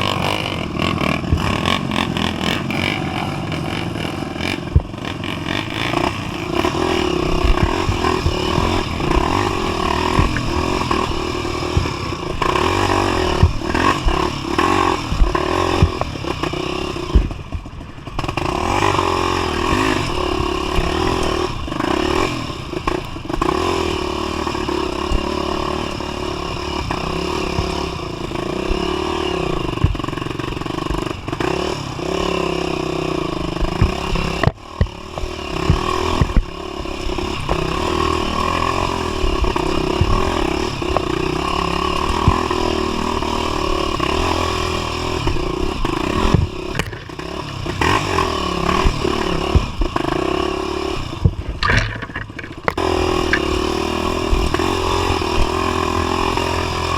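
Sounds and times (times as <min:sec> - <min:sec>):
motorcycle clattering over terrain: 0:00.0 - 0:56.9
motorcycle engine revving: 0:00.0 - 0:56.9.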